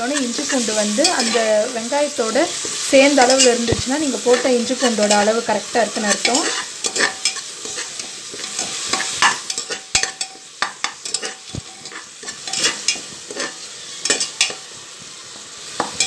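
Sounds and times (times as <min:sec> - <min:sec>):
onions sizzling in oil: 0:00.0 - 0:16.0
spoon scraping pot bottom: 0:00.1 - 0:01.6, 0:02.5 - 0:14.6.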